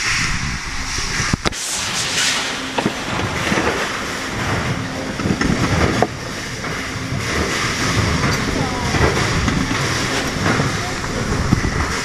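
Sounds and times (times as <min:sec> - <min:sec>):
workshop machinery din: 0:01.4 - 0:12.0.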